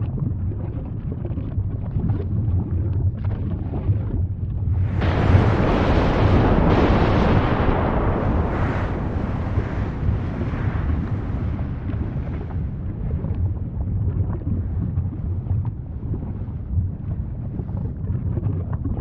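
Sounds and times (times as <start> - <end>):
small crackles and pops: 0.0 - 19.0
volcano deep rumble: 0.0 - 19.0.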